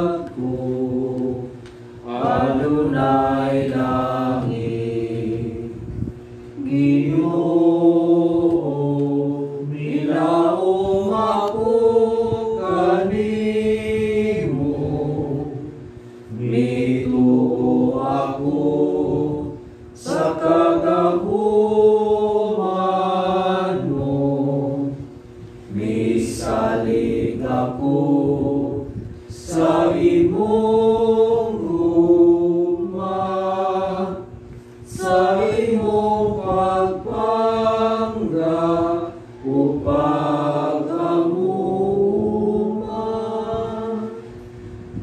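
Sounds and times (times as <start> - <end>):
voices singing a slow hymn: 0.0 - 45.0.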